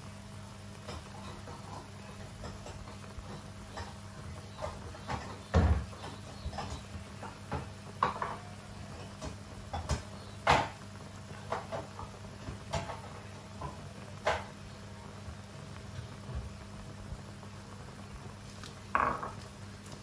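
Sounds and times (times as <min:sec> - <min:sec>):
water boiling with pops: 0:00.0 - 0:20.0.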